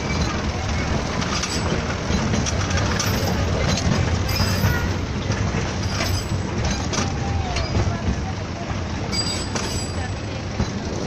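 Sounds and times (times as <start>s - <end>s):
toy train wheels rumbling on rails: 0.0s - 11.0s.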